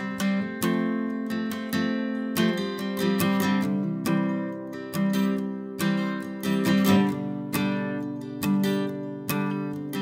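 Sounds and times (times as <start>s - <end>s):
acoustic guitar chords strummed: 0.0s - 10.0s.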